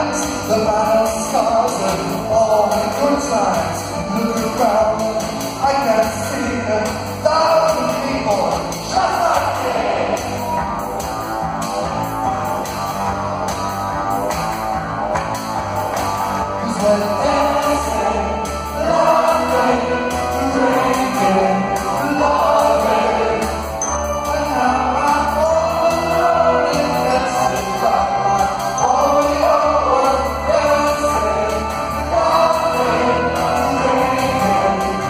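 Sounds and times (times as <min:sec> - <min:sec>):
man singing: 0:00.0 - 0:10.3, 0:16.6 - 0:35.0
live synth-pop band: 0:00.0 - 0:35.0
pulsing bass line: 0:00.0 - 0:35.0.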